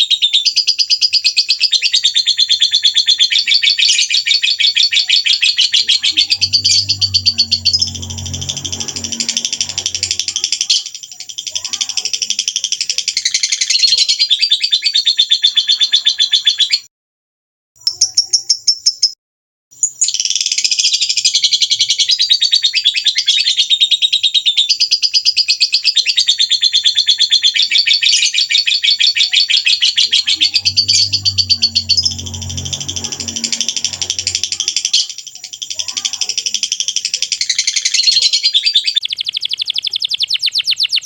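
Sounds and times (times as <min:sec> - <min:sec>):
songbirds twittering: 0:00.0 - 0:16.9, 0:19.8 - 0:41.0.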